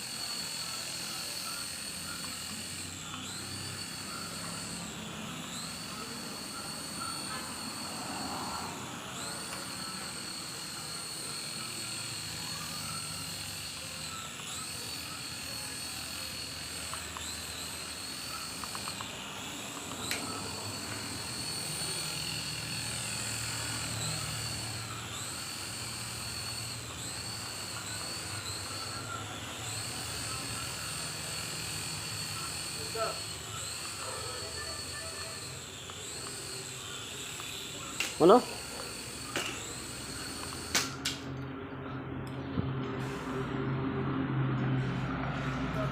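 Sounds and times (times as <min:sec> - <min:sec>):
small helicopter motor whining: 0:00.0 - 0:45.9.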